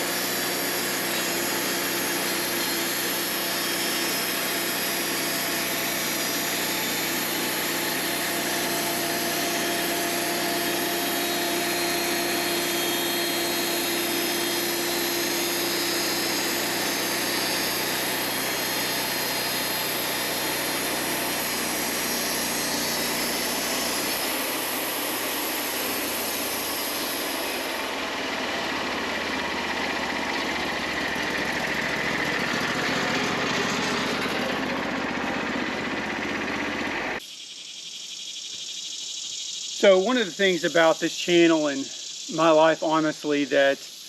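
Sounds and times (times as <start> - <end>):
band sawmill cutting log: 0.0 - 37.2, 39.8 - 43.5.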